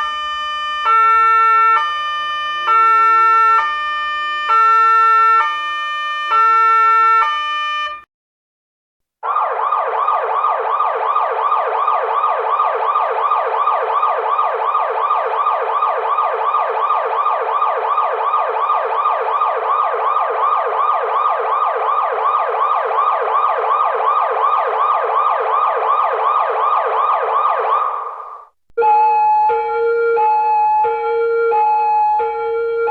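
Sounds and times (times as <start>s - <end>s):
police siren fast yelp: 0.0s - 8.0s, 9.2s - 32.9s
police siren hi-lo wail: 0.0s - 8.0s, 9.2s - 32.9s.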